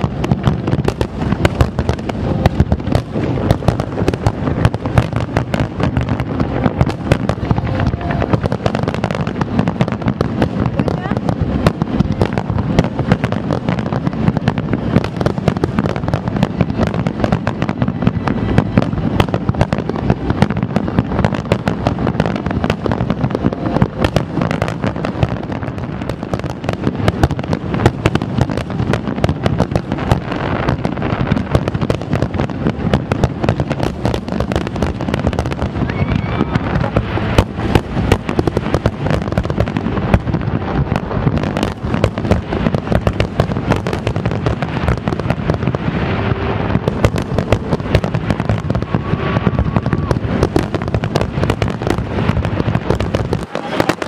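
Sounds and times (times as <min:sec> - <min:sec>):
fireworks bursts and crackles: 0:00.0 - 0:54.0.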